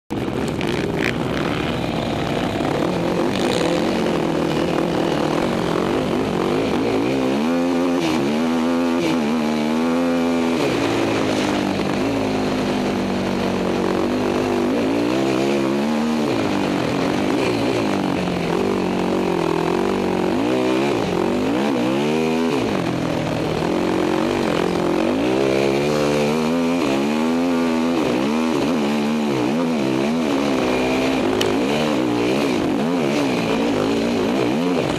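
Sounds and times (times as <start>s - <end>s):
quad engine revving: 0.1s - 34.9s.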